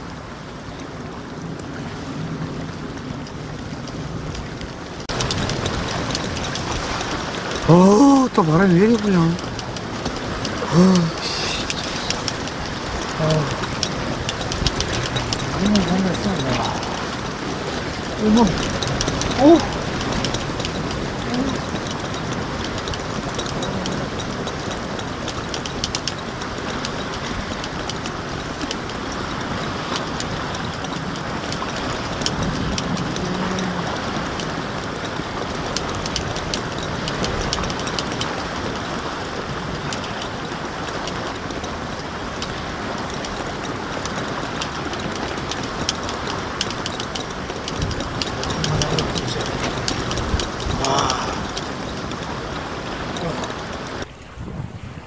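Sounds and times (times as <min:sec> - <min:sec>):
wind blowing across microphone: 0:00.0 - 0:55.0.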